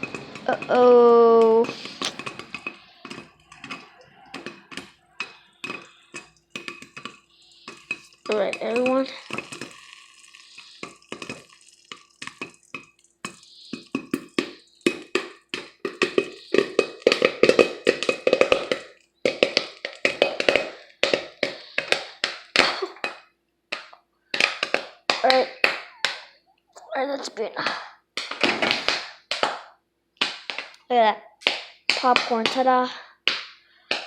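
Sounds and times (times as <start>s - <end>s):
popcorn popping in a pot: 0.0s - 26.4s, 27.0s - 34.0s.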